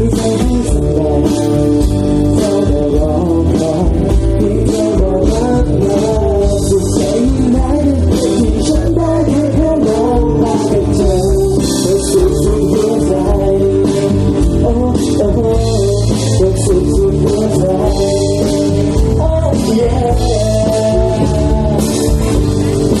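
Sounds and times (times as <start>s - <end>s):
rock song with singing: 0.0s - 23.0s.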